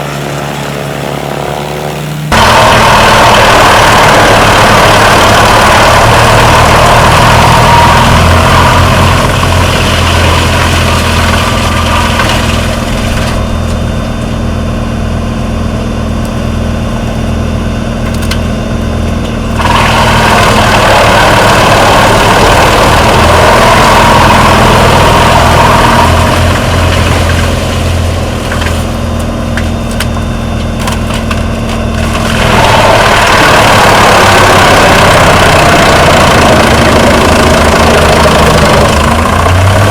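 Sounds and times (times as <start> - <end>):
wood chipper engine drone: 0.0 - 39.9
wood grinding and shredding: 0.0 - 39.9.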